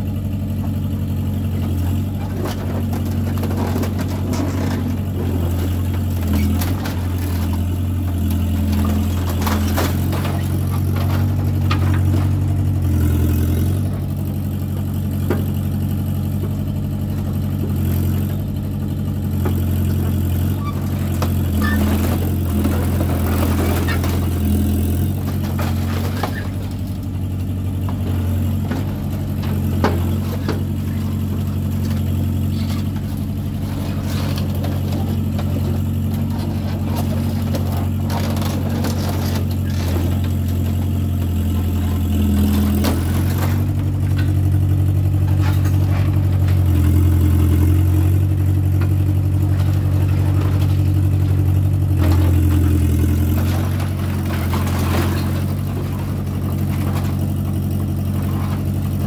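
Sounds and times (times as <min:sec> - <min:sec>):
excavator diesel engine running: 0:00.0 - 0:59.0
metal clanks and scrapes: 0:01.4 - 0:14.2, 0:19.3 - 0:59.0.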